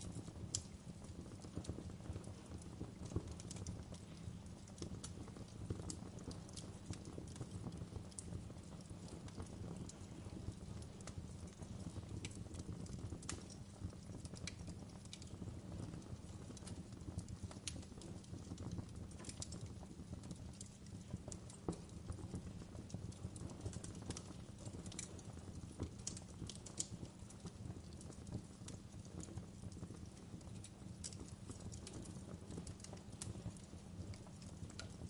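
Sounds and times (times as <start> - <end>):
fire crackling and popping: 0.0 - 35.0
low fire rumble: 0.0 - 35.0.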